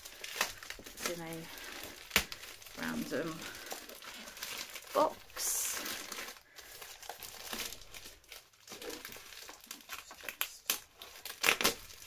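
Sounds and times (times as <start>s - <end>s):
plastic bag crinkling: 0.0s - 12.0s
sharp plastic crackles: 0.0s - 12.0s.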